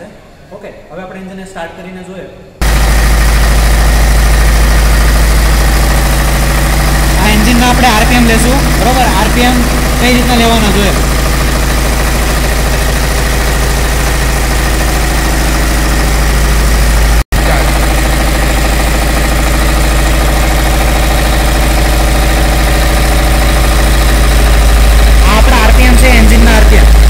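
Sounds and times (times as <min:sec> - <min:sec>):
diesel engine running: 0:02.6 - 0:27.0.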